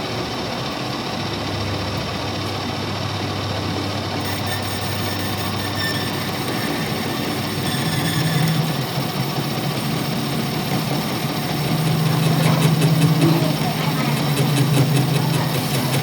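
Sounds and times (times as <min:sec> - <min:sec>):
heavy machinery humming: 0:00.0 - 0:16.0.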